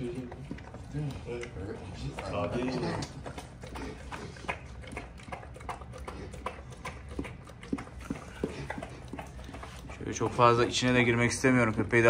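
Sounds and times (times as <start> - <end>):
dog eating wet food: 0.0 - 12.0.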